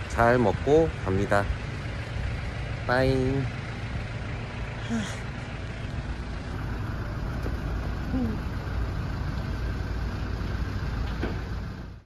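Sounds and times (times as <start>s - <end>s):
city street rumble: 0.0s - 12.0s.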